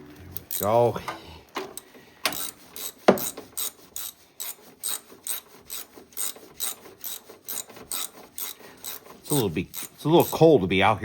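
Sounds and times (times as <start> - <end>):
ratchet wrench clicking: 0.4 - 10.5.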